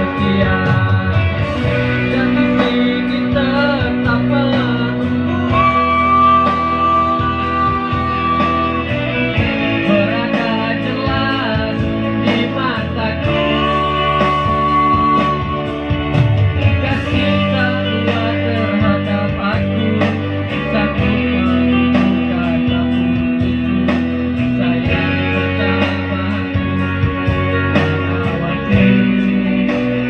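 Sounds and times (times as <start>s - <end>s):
keyboard music over loudspeakers: 0.0s - 30.0s.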